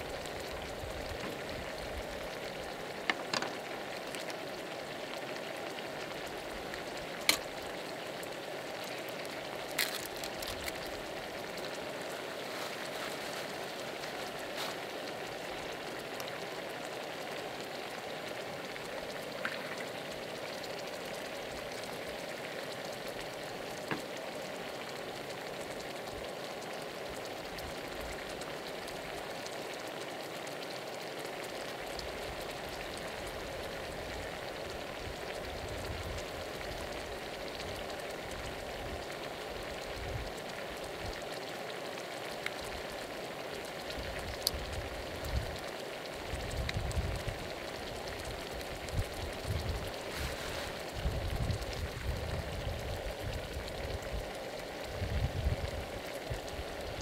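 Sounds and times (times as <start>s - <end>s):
oil sizzling in a pan: 0.0s - 57.0s.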